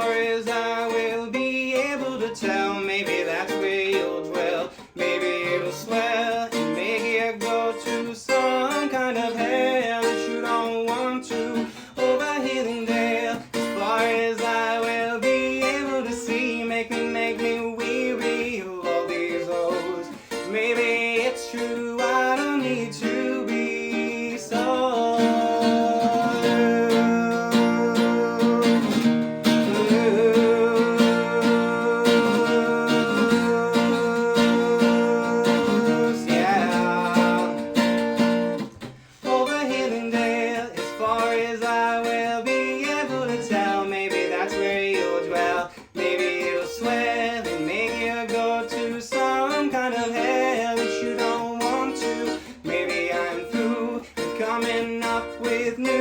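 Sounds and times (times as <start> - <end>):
plucked string instrument music: 0.0 - 56.0.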